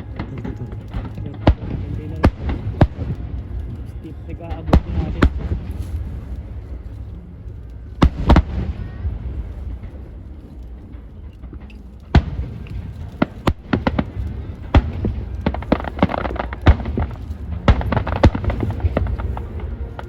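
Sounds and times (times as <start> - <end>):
fireworks banging: 0.0 - 6.9, 7.8 - 20.0
fireworks crackling: 0.0 - 20.0.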